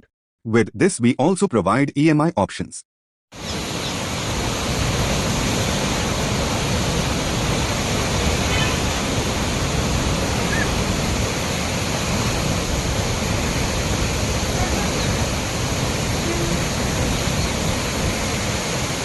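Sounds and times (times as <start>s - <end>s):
water rushing through spillway: 3.4s - 19.0s.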